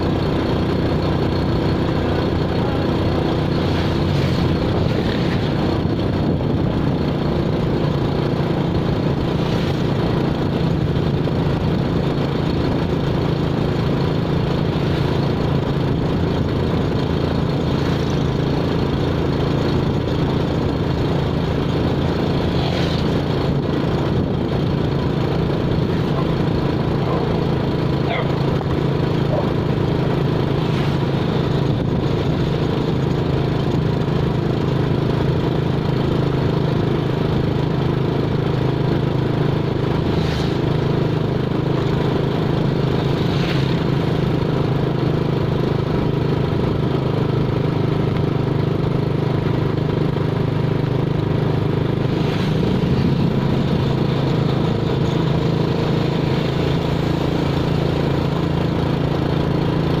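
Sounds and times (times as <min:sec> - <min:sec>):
engine running steadily: 0:00.0 - 1:00.0.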